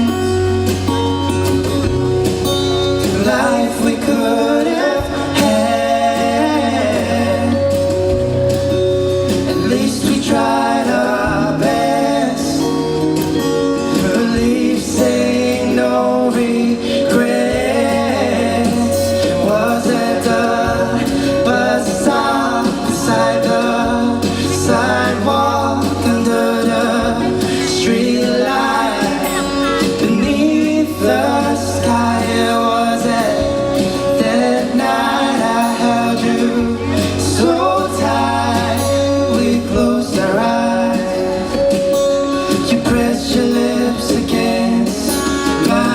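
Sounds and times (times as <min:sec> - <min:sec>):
live band playing soft pop: 0:00.0 - 0:45.9
person singing: 0:02.7 - 0:45.9.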